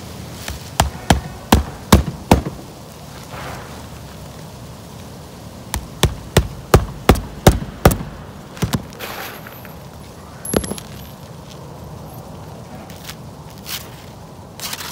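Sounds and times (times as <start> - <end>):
rustle: 0.0 - 14.9.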